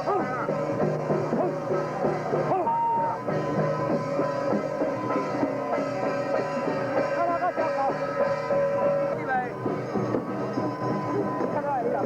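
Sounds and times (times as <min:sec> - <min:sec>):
music with drums: 0:00.0 - 0:12.0.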